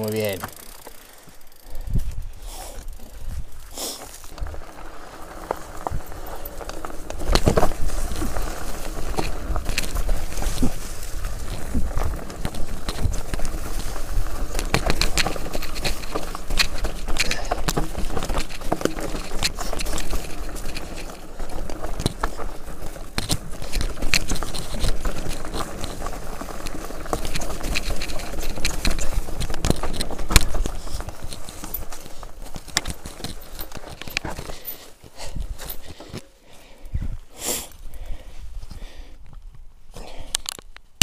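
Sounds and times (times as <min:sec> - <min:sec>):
tyres crunching over stones: 0:00.0 - 0:41.0
bike knocking on rocks: 0:00.2 - 0:01.0, 0:04.2 - 0:36.3.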